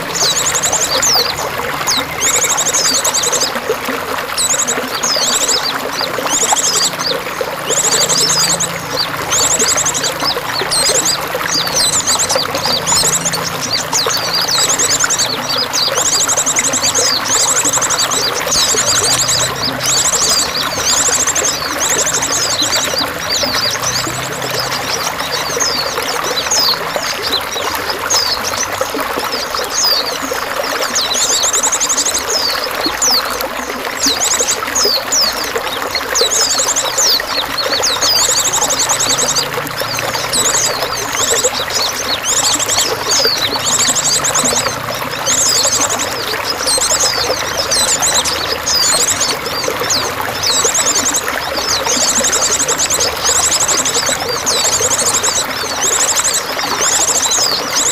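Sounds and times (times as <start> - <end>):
running water trickling: 0.0 - 57.9
songbirds chirping and trilling: 0.0 - 57.9.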